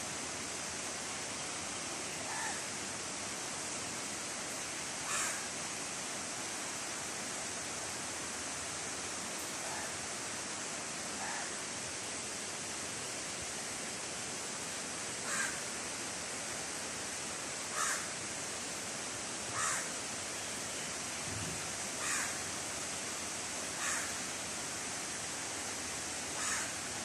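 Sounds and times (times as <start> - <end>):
rain falling on vegetation: 0.0 - 27.0.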